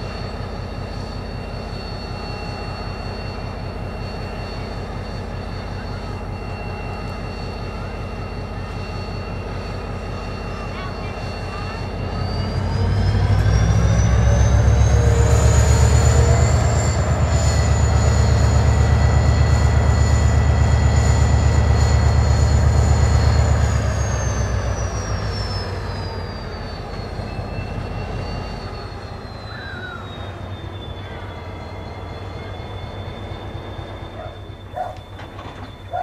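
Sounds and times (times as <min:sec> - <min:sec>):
high turbocharger whine: 0:00.0 - 0:35.7
deep locomotive engine rumble: 0:00.0 - 0:36.0.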